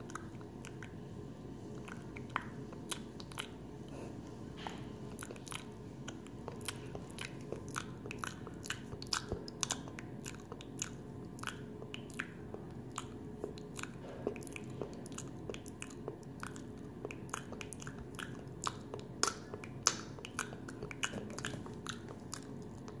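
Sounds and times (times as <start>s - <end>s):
low background hum: 0.0s - 23.0s
person chewing and crunching: 1.8s - 3.6s, 4.6s - 23.0s.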